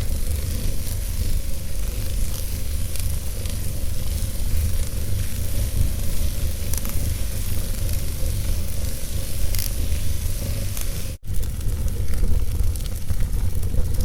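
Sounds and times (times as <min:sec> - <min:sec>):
faint fire crackles: 0:00.0 - 0:14.0
wood fire burning: 0:00.0 - 0:14.0.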